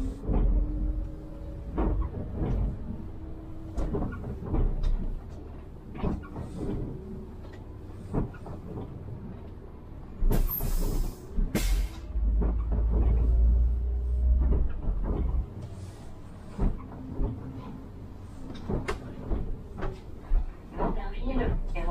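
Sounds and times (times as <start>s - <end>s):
bus engine and road rumble: 0.0s - 21.9s.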